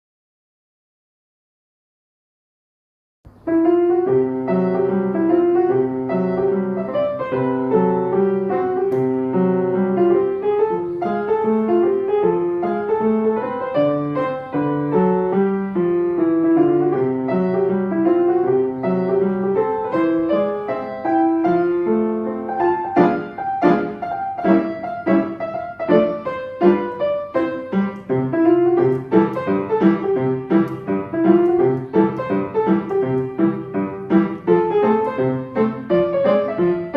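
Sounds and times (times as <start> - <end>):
solo piano piece: 3.3 - 36.9.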